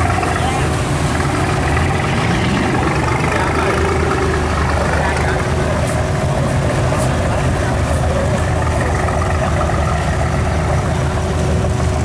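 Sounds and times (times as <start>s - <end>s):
boat engine running low: 0.0s - 12.0s.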